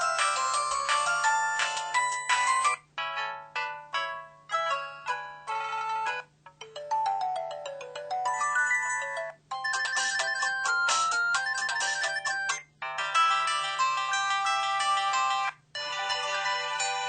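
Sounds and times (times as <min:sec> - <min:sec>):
phone playing polyphonic ringtones: 0:00.0 - 0:17.0.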